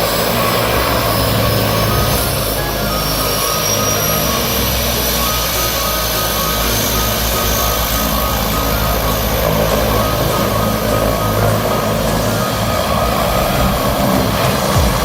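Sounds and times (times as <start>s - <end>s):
constant rushing noise: 0.0s - 15.0s.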